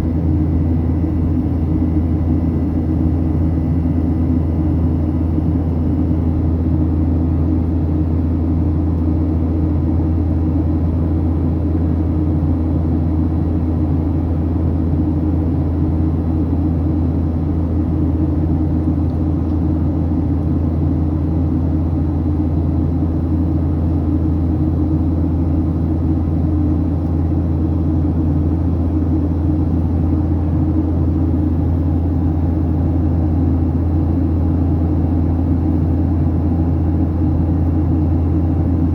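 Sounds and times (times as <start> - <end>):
aircraft cabin rumble: 0.0 - 38.9.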